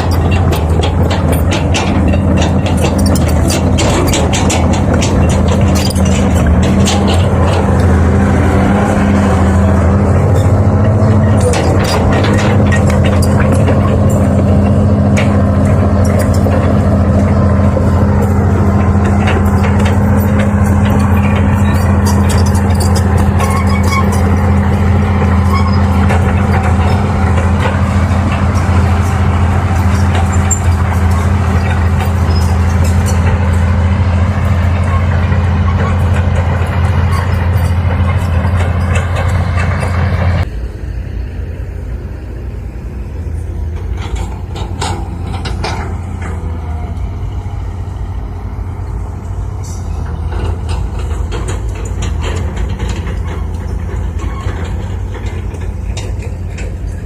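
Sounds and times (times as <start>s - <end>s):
metallic clanks and rattles: 0.0s - 40.5s, 43.2s - 57.0s
heavy diesel engine running: 0.0s - 57.0s.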